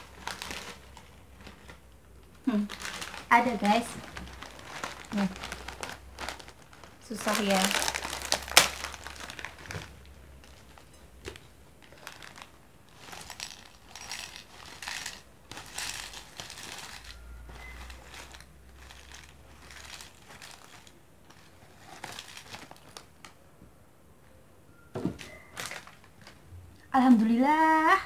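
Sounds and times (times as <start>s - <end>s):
plastic snack packet crinkling: 0.0s - 23.4s, 25.5s - 26.4s.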